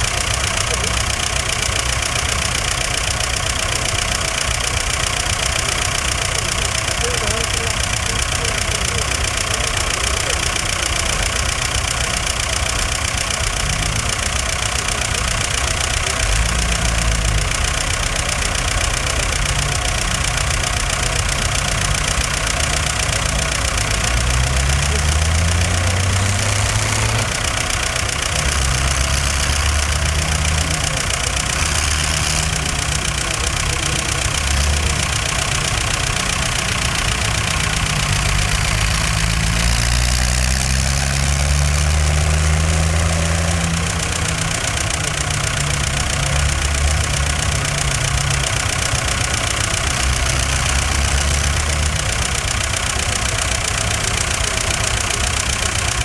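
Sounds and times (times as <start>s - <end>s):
diesel engines under load: 0.0s - 56.0s.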